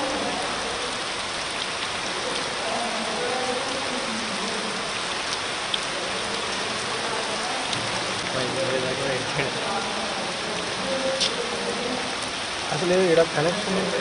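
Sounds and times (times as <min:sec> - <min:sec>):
heavy rain and hail hissing: 0:00.0 - 0:14.0.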